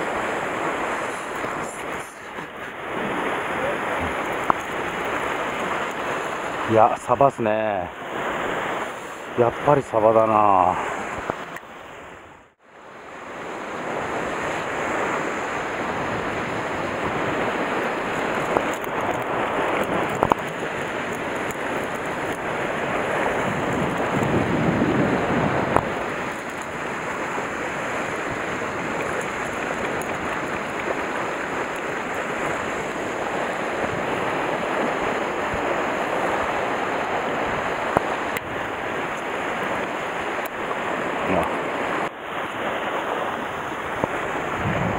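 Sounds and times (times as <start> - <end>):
wind on microphone: 0.0 - 6.7, 10.7 - 44.9
sea surf washing on rocks: 0.0 - 12.3, 13.0 - 44.9.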